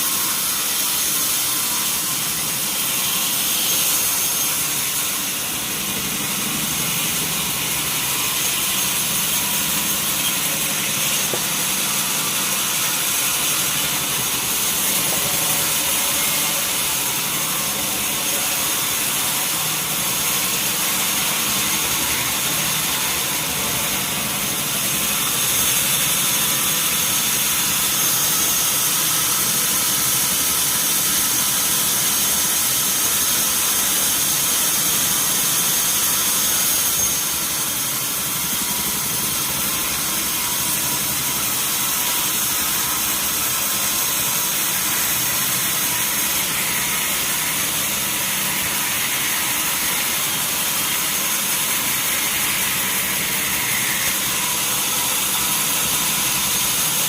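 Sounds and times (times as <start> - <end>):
sawmill machinery whining: 0.0 - 57.0.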